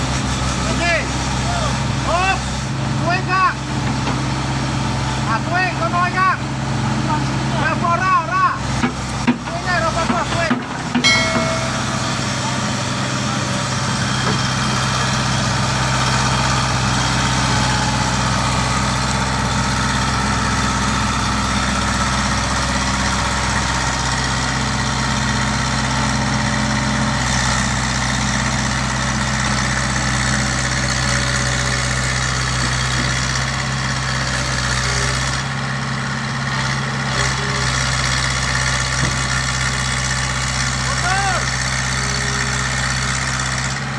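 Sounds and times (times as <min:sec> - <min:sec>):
excavator diesel engine idling: 0:00.0 - 0:43.9.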